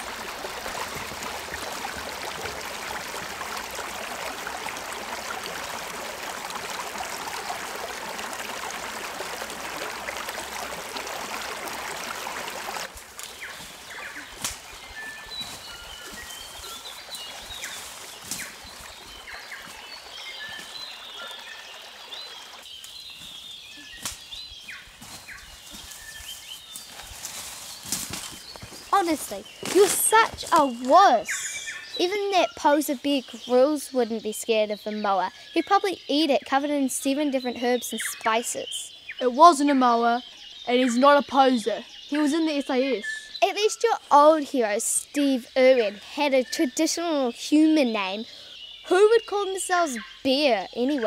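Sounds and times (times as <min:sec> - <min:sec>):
stream trickling over rocks: 0:00.0 - 0:51.0.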